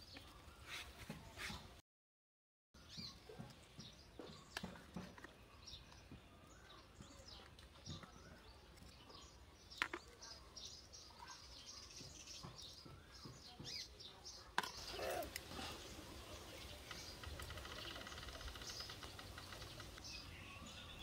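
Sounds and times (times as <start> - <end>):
small birds chirping: 0.0 - 1.8, 2.8 - 21.0.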